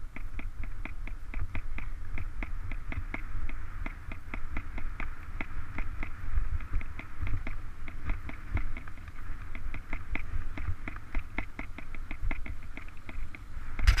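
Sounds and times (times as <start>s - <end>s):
rapid bike ticking: 0.0s - 14.0s.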